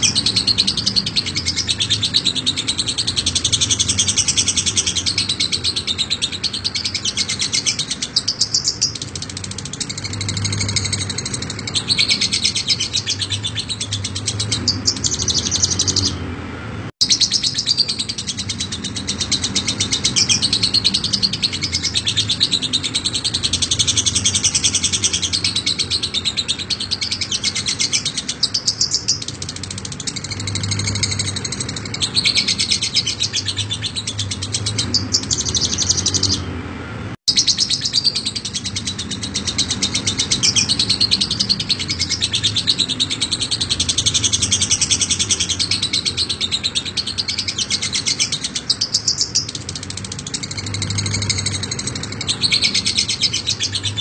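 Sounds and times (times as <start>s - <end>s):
lovebird chattering: 0.0s - 16.2s, 17.0s - 36.5s, 37.3s - 54.0s.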